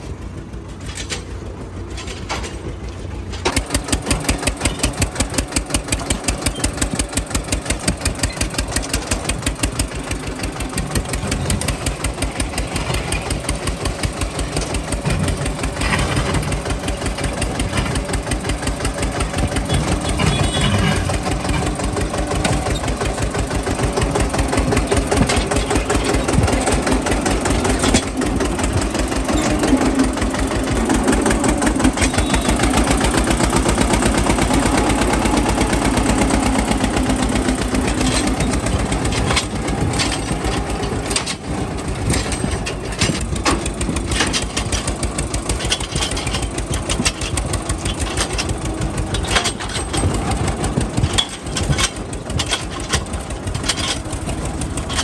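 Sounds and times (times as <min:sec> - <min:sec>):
knocks and clatter: 0:00.0 - 0:55.0
tractor diesel engine running: 0:00.0 - 0:55.0.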